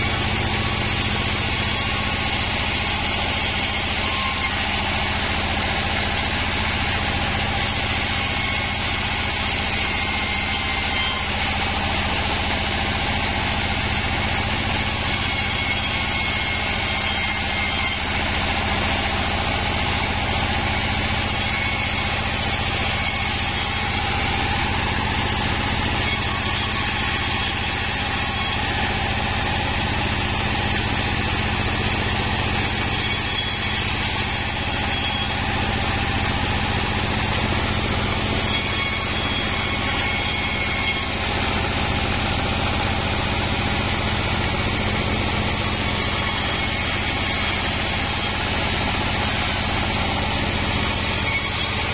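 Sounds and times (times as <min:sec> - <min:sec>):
sawmill machine sawing wood: 0:00.0 - 0:51.9.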